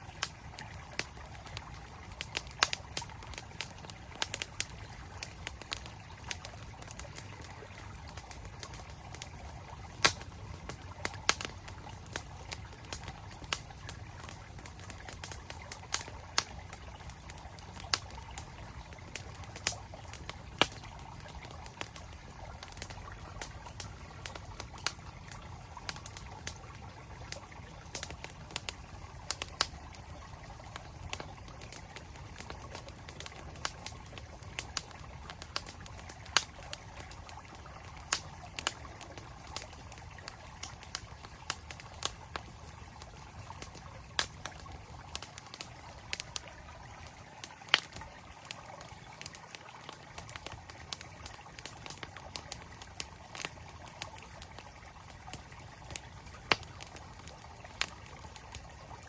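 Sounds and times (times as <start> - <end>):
campfire crackling and popping: 0.0 - 59.0
stream flowing: 0.0 - 59.0.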